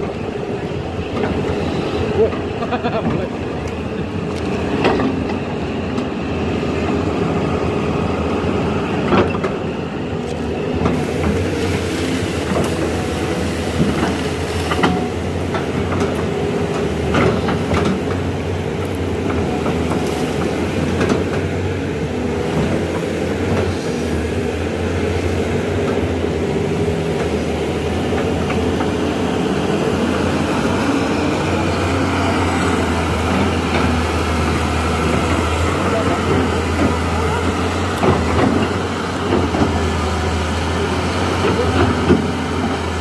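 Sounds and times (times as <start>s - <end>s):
excavator engine and hydraulics: 0.0s - 43.0s.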